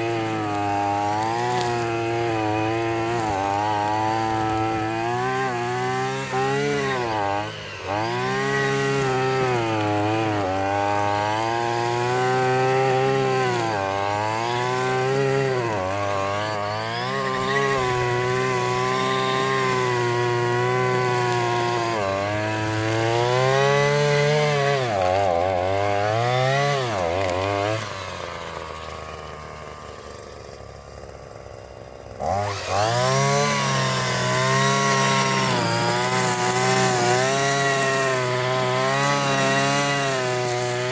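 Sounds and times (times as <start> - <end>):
string trimmer engine revving: 0.0 - 40.9.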